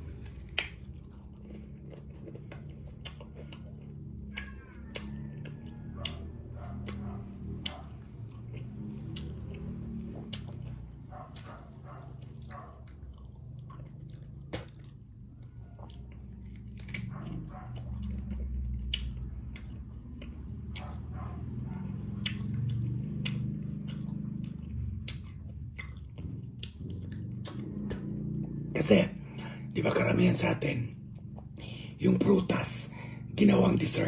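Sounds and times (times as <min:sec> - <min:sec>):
crunchy chewing of fruit: 0:00.0 - 0:34.0
steady low hum: 0:00.0 - 0:34.0.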